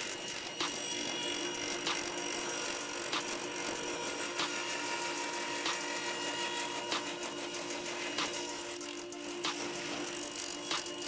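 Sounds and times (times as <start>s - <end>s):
table saw humming: 0.0s - 11.0s.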